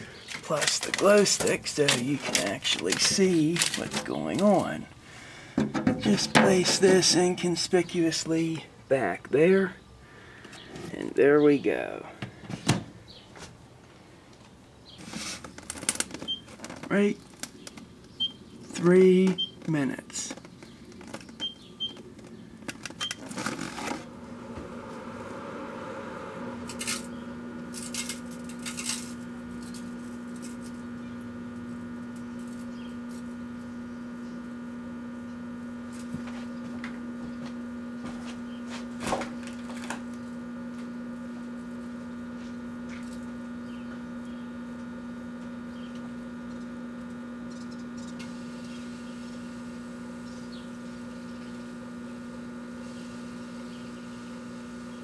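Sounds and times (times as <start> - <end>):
microwave oven humming: 0.0 - 55.0.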